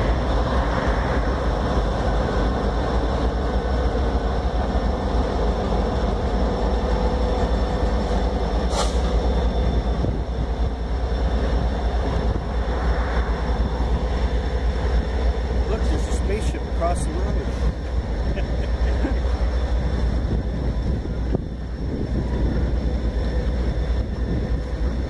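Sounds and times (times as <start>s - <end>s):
diesel locomotives pulling away: 0.0s - 25.0s
train coaches rolling on rails: 0.0s - 25.0s.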